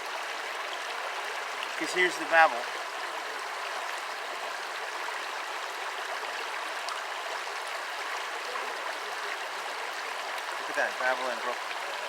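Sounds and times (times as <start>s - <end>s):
brook babbling over stones: 0.0s - 12.0s.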